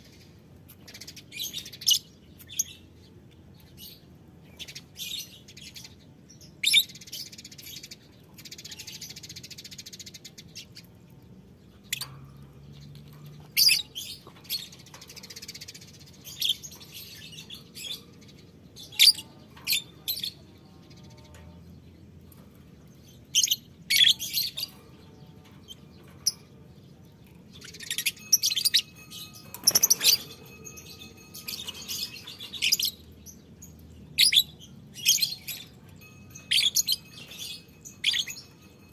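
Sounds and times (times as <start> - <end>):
lovebirds chirping and screeching: 3.7 - 38.9.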